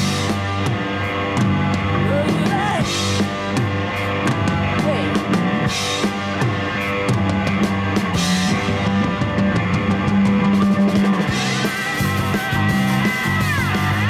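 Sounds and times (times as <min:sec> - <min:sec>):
bass guitar low notes: 0:00.0 - 0:14.0
drum kit: 0:00.0 - 0:14.0.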